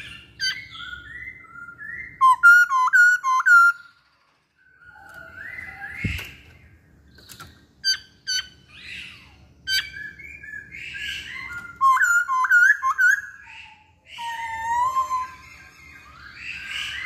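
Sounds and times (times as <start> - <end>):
bird chirps and whistles: 0.0 - 4.0, 4.7 - 6.4, 7.8 - 17.0.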